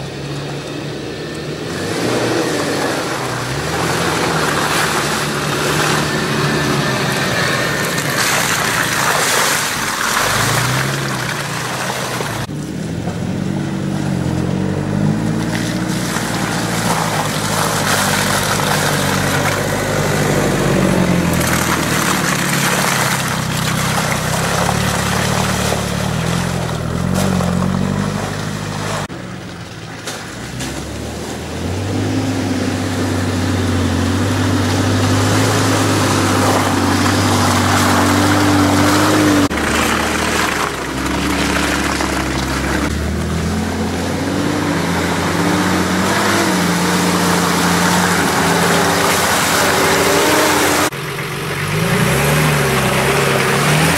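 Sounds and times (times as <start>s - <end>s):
off-road vehicle engines revving: 0.0s - 53.9s.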